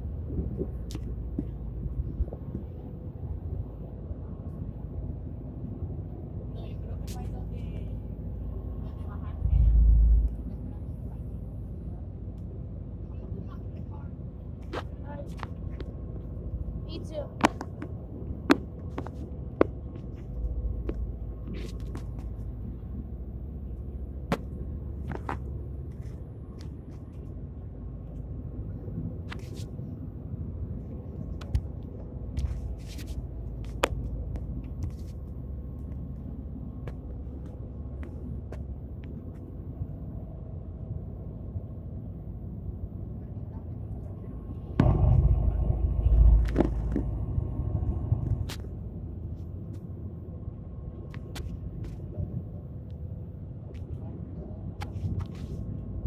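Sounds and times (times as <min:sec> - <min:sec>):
ferry engine rumble: 0:00.0 - 0:56.0
wind over deck: 0:00.0 - 0:56.0.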